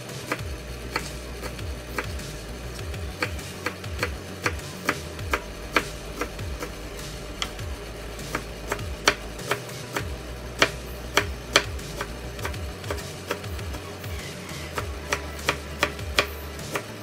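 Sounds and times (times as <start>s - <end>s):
knife chopping on wooden board: 0.0s - 2.2s, 2.8s - 7.6s, 8.2s - 13.8s, 14.7s - 17.0s.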